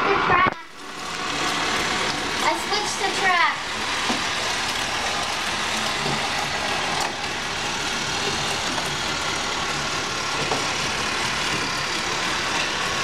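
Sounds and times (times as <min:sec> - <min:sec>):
toy train motor running: 0:00.0 - 0:13.0.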